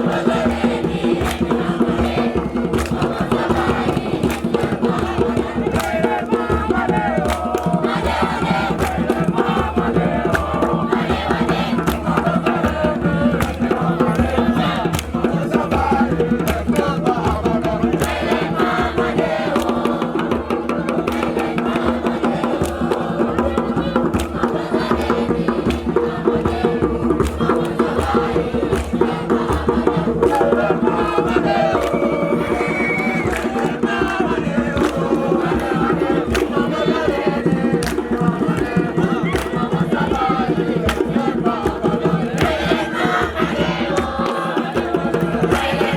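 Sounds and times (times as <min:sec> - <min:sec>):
continuous drumming: 0:00.0 - 0:45.9
group chanting and singing: 0:00.0 - 0:45.9.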